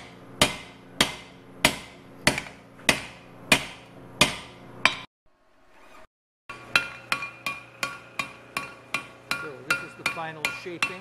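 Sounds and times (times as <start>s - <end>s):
hammer striking hot metal: 0.0s - 5.1s, 6.5s - 11.0s.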